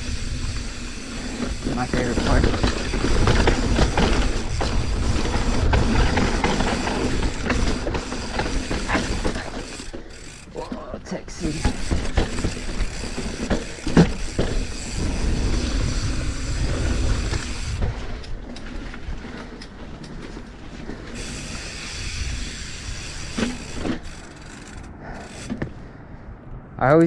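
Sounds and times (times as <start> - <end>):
mountain bike clattering over rocks: 0.1 - 17.8, 18.7 - 25.8.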